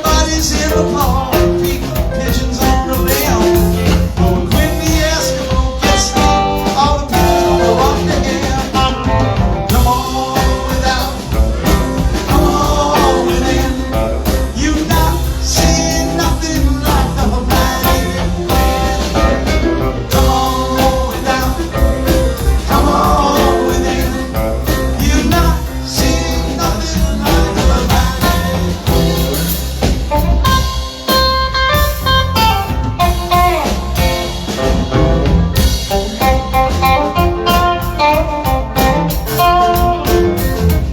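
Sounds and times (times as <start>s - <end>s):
live blues-rock band playing: 0.0s - 40.9s
person singing: 0.0s - 40.9s.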